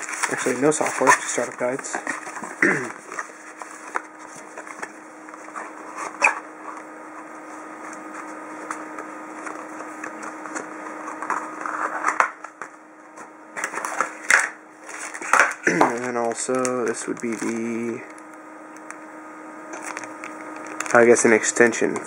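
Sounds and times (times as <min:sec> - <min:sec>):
paper and plastic rustling: 0:00.0 - 0:06.8, 0:07.4 - 0:18.2, 0:19.7 - 0:22.0
steady low hum: 0:00.0 - 0:22.0.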